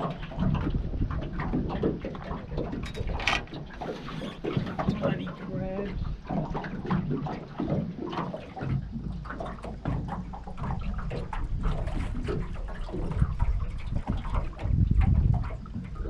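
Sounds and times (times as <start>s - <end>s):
water splashing and lapping: 0.0s - 16.0s
wind rumbling on microphone: 0.0s - 16.0s.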